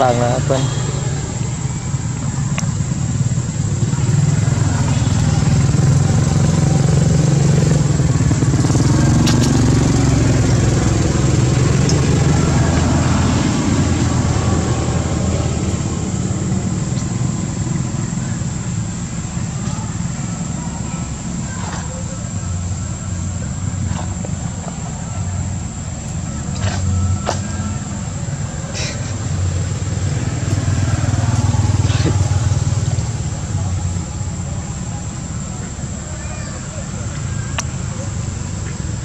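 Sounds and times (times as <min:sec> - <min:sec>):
low engine hum: 0:00.0 - 0:39.0.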